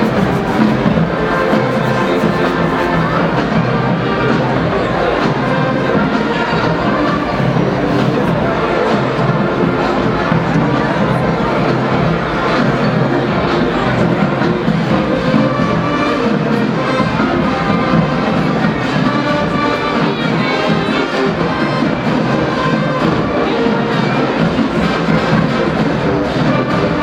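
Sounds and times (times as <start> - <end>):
marching band drums: 0.0 - 27.0
trumpets and trombones: 0.0 - 27.0.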